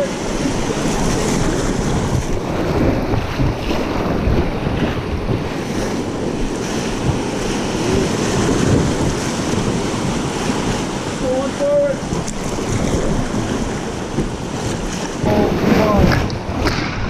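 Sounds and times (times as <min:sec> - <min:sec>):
river whitewater rushing: 0:00.0 - 0:05.1, 0:06.3 - 0:17.0
wind buffeting microphone: 0:00.0 - 0:17.0.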